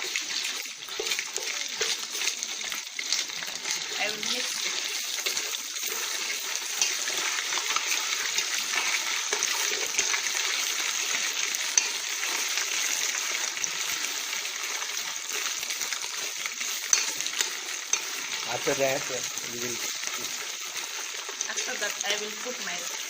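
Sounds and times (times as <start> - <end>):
paste sizzling in hot oil: 0.0 - 23.0.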